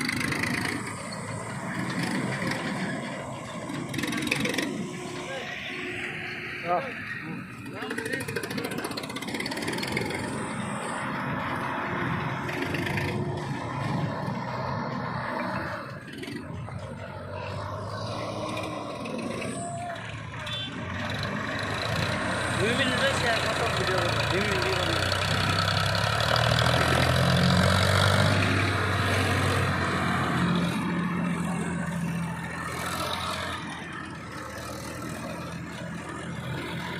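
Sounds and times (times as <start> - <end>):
heavy machinery diesel engine running: 0.0 - 36.9.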